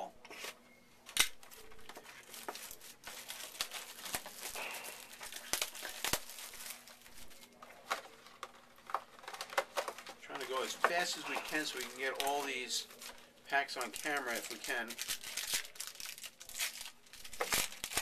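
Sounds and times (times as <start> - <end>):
wrapper snaps: 1.1 - 13.2, 13.8 - 18.0
foil wrappers crinkling and tearing: 1.1 - 18.0.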